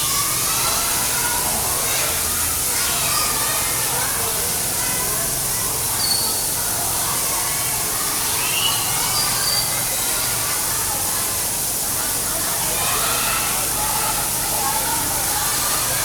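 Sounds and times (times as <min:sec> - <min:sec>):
children's voices: 0:00.0 - 0:16.0
rain falling: 0:00.0 - 0:16.0.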